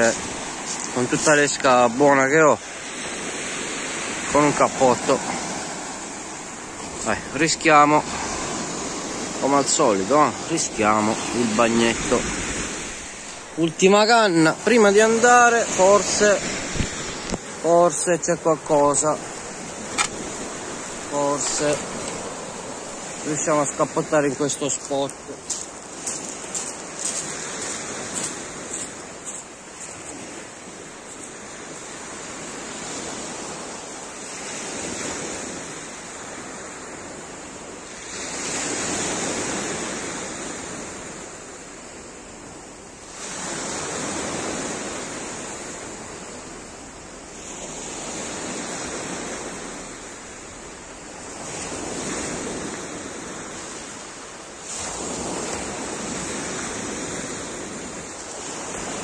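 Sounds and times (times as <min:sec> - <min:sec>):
waves breaking on pebble beach: 0:00.0 - 0:59.0.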